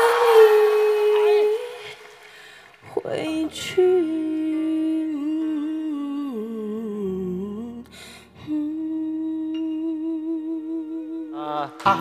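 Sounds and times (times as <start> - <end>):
woman humming long notes: 0.0 - 1.9, 3.6 - 11.7.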